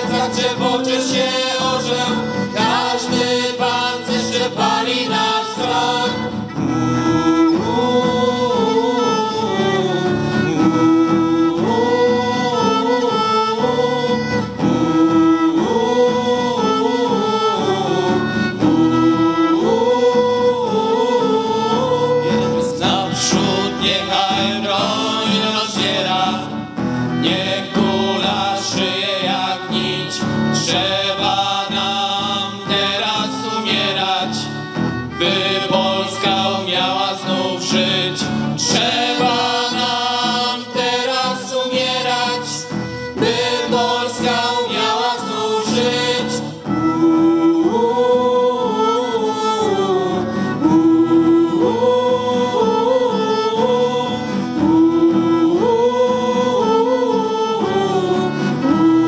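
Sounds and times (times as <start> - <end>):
people singing together: 0.0 - 59.0
strummed acoustic guitar: 0.0 - 59.0
violin melody: 0.0 - 59.0.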